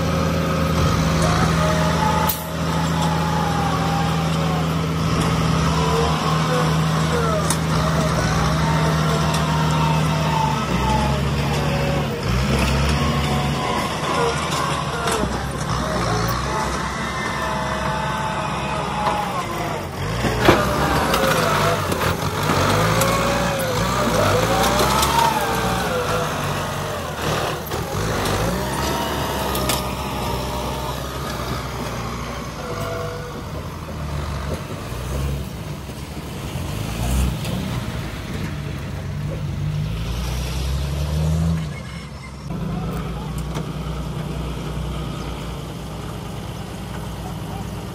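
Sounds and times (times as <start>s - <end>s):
engine whine: 0.0s - 41.8s
heavy diesel engines running: 0.0s - 47.9s.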